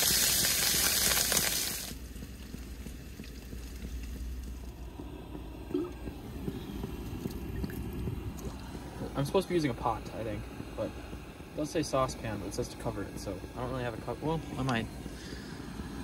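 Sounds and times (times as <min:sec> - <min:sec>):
frying pan sizzling: 0:00.0 - 0:16.0
low steady rumble: 0:01.8 - 0:16.0.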